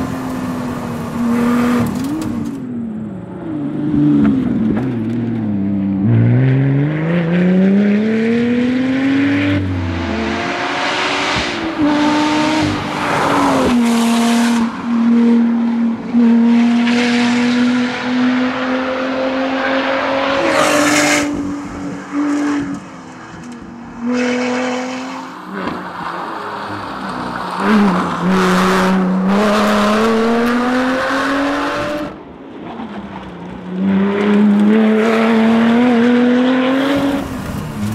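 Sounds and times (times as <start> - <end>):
car engine accelerating hard: 0.0 - 37.9.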